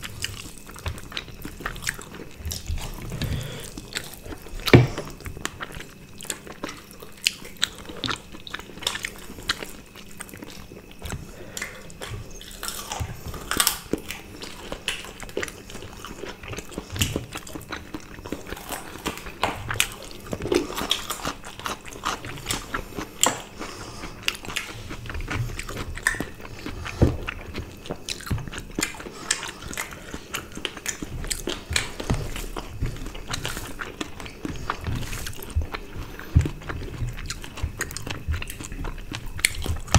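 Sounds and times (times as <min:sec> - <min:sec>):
people chewing and smacking: 0:00.0 - 0:39.9.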